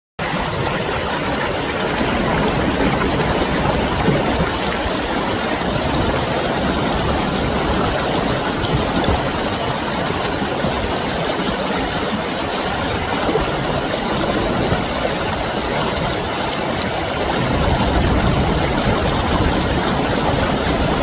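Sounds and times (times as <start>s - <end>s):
stream water rushing: 0.2s - 21.0s.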